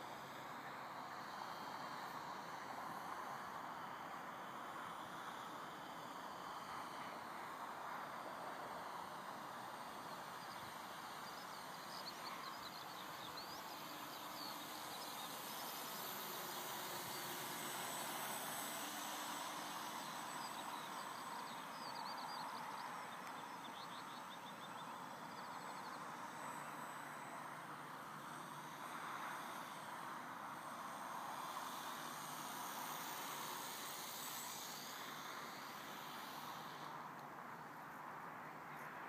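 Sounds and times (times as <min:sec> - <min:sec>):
steady outdoor hiss: 0:00.0 - 0:39.0
faint birds chirping: 0:00.1 - 0:39.0.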